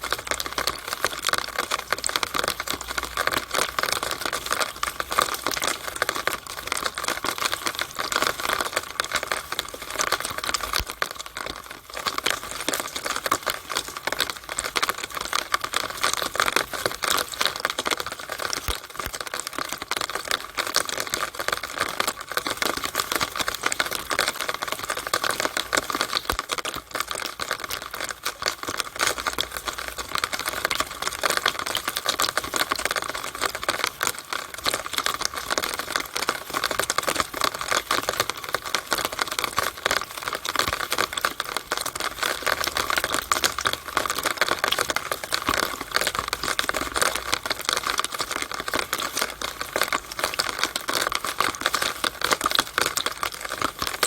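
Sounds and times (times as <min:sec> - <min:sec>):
water pouring from a downspout: 0:00.0 - 0:54.0.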